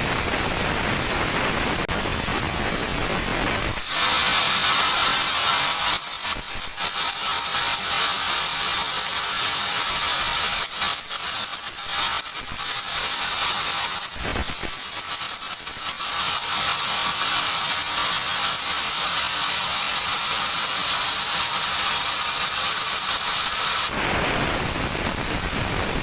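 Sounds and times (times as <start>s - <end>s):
sawmill machinery hissing: 0.0s - 26.0s
rattle of mechanical clicks: 2.8s - 23.9s.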